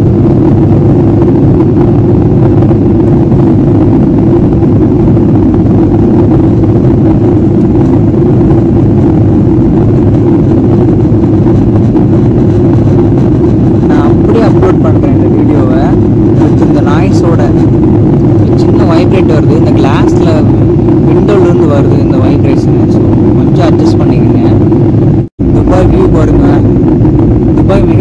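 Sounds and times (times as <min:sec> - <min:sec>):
jet engine drone: 0:00.0 - 0:28.0.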